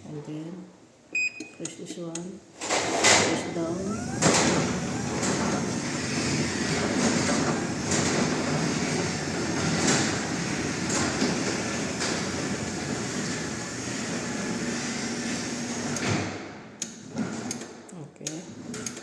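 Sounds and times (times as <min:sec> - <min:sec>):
garage door opener rumbling: 0:02.6 - 0:17.7, 0:18.4 - 0:19.0.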